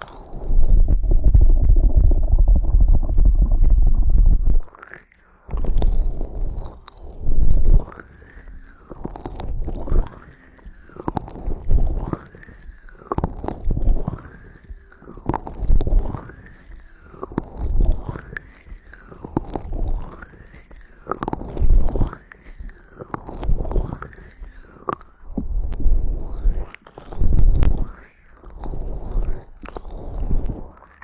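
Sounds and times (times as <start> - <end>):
rubbing at microphone with thump: 0.3 - 4.7, 5.5 - 27.9.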